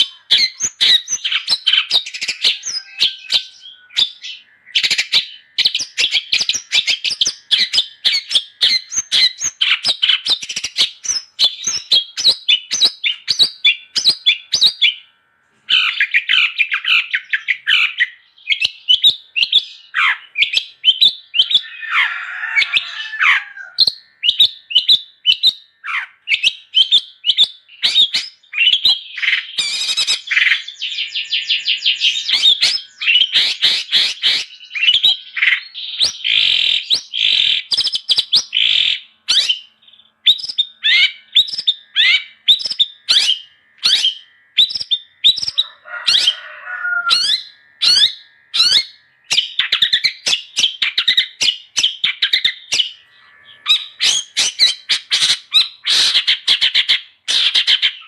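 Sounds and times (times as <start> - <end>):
bird chattering: 0.0 - 15.0, 15.7 - 58.0
bird singing chirps and whistles: 0.0 - 15.1, 15.7 - 58.0.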